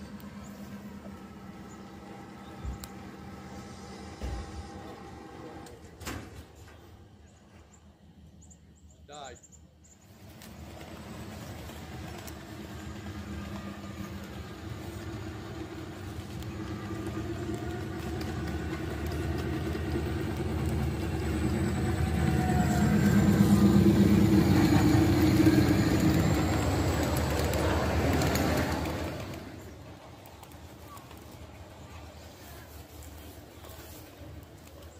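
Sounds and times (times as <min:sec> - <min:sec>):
miniature train motor hum: 0:00.0 - 0:05.9, 0:10.1 - 0:34.9.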